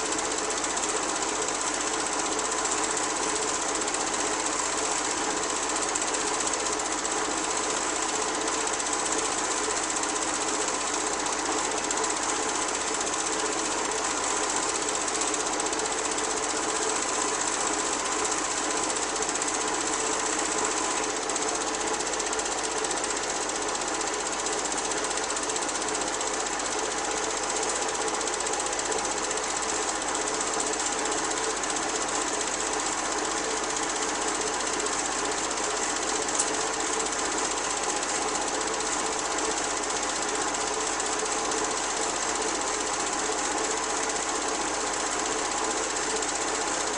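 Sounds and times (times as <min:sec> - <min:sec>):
film projector running: 0:00.0 - 0:46.9.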